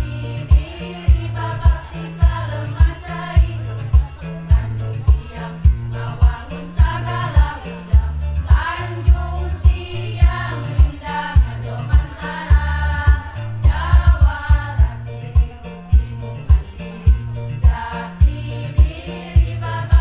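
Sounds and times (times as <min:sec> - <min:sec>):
bass line: 0:00.0 - 0:20.0
kick drum beat: 0:00.0 - 0:20.0
women's choir singing: 0:00.0 - 0:20.0.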